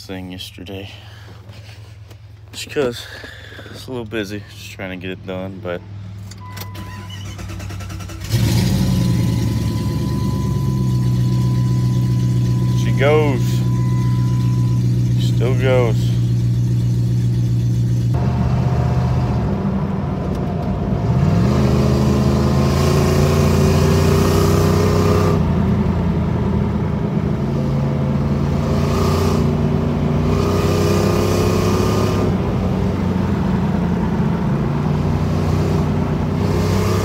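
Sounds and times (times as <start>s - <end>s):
road and wind noise: 0.0s - 37.0s
car engine accelerating: 7.2s - 37.0s.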